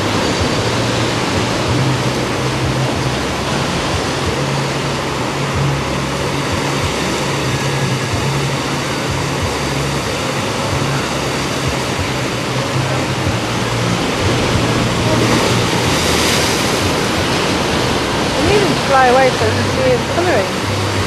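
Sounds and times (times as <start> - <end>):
sea surf washing over rocks: 0.0 - 21.0.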